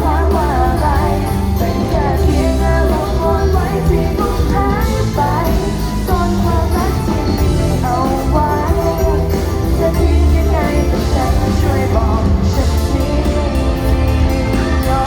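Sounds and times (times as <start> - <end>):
strong steady bass line: 0.0 - 15.0
woman singing: 0.0 - 15.0.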